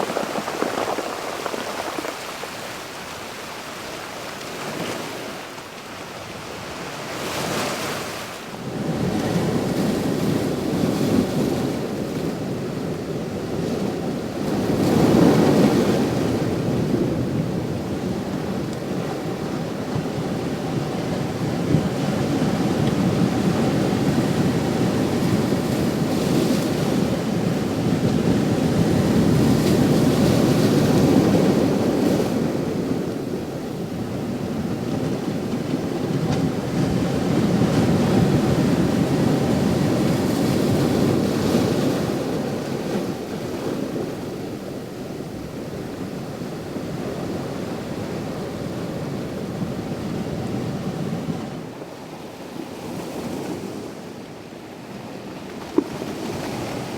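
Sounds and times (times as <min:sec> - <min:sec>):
ocean surf washing: 0:00.0 - 0:56.9.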